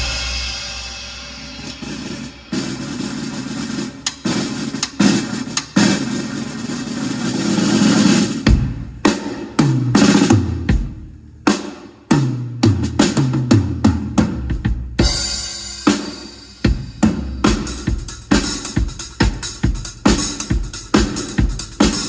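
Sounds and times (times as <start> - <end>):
drum kit beat: 0.0 - 22.0.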